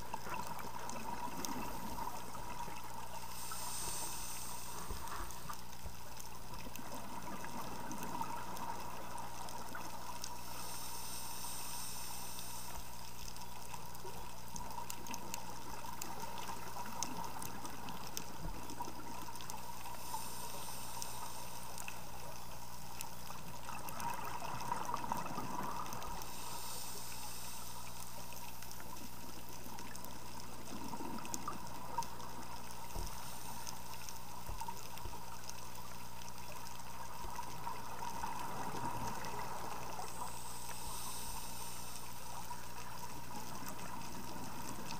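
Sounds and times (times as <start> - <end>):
small crackles: 0.0 - 44.9
underwater hiss: 0.2 - 44.9.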